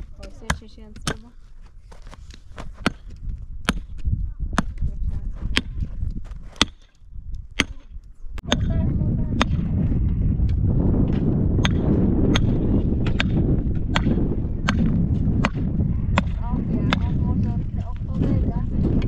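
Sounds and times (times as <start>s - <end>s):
hammer blows on stones and wood: 0.0s - 1.4s, 2.6s - 19.0s
low rumble: 3.3s - 19.0s.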